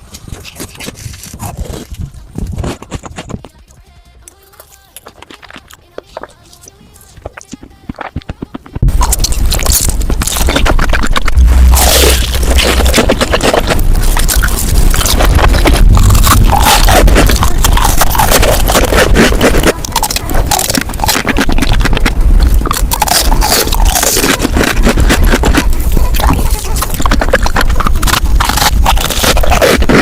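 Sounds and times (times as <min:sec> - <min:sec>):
sped-up eating crunches: 0:00.0 - 0:30.0.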